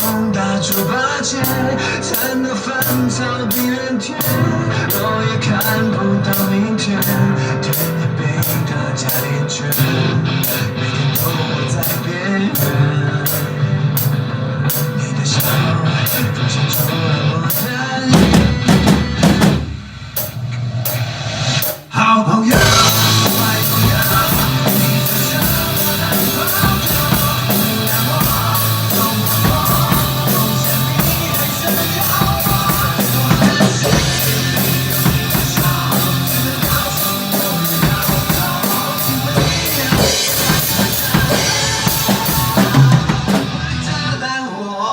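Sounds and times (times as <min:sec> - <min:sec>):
person singing: 0:00.0 - 0:19.7, 0:21.8 - 0:44.9
drum kit playing: 0:00.0 - 0:44.2
rock backing track: 0:00.0 - 0:44.2.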